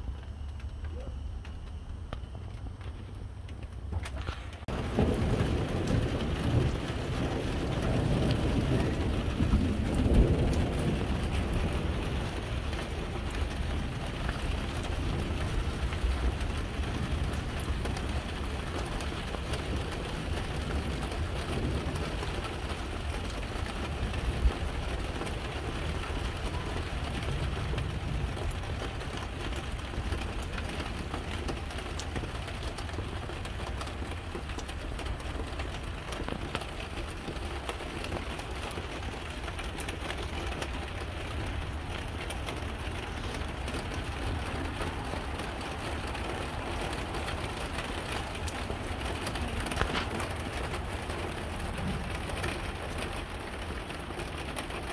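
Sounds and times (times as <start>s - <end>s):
steady rain falling: 0.0s - 54.9s
low rumble of thunder: 4.2s - 54.9s.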